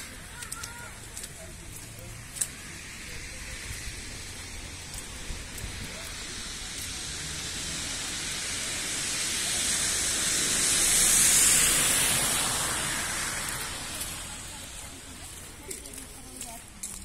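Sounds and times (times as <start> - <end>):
rushing hiss: 0.0 - 17.0.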